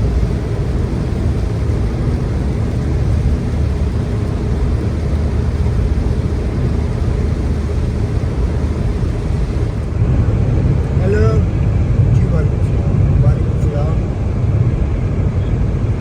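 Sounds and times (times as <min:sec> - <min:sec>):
car tyre and road noise: 0:00.0 - 0:16.0.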